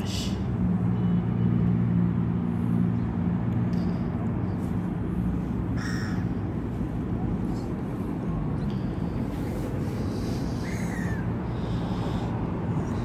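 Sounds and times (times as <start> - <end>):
low traffic engine hum: 0.0 - 13.0
outdoor background noise: 0.0 - 13.0.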